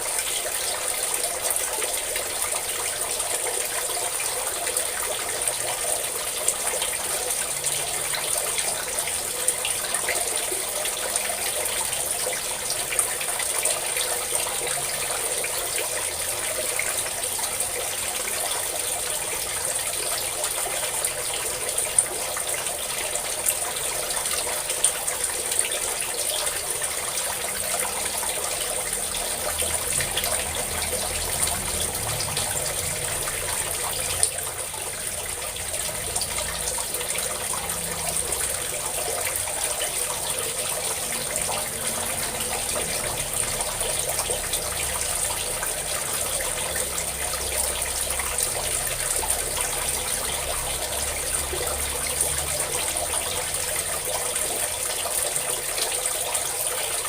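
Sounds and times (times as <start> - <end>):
water pouring and splashing: 0.0 - 57.0.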